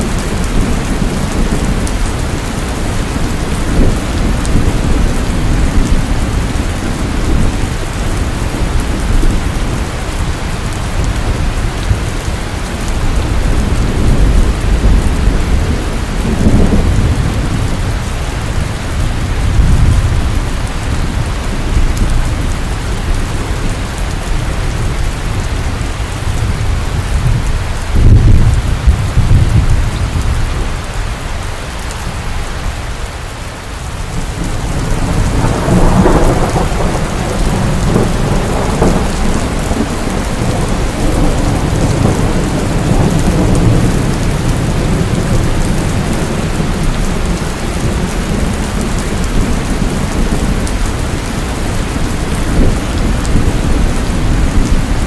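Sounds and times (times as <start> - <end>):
low thunder rumbling: 0.0 - 33.0, 33.9 - 55.0
heavy rain: 0.0 - 55.0.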